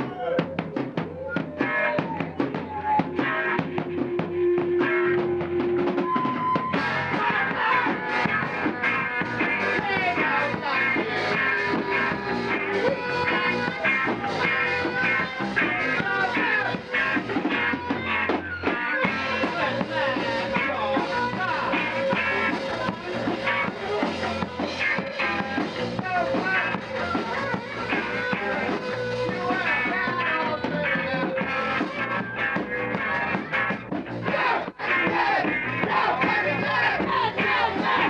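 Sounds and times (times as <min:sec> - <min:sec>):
rock band playing live: 0:00.0 - 0:38.0.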